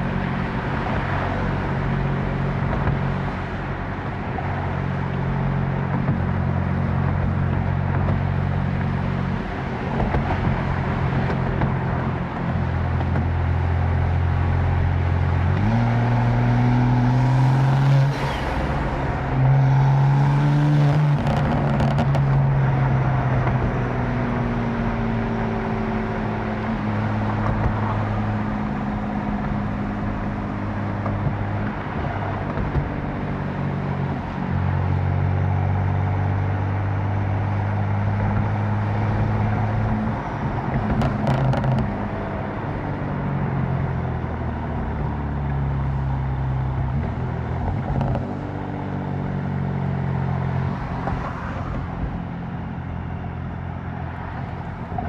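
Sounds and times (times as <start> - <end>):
car engine shifting gears: 0.1 - 55.0.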